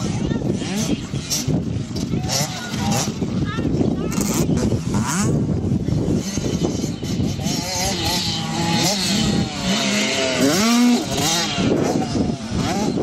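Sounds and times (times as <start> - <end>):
two-stroke motorbike engine revving: 0.0 - 13.0.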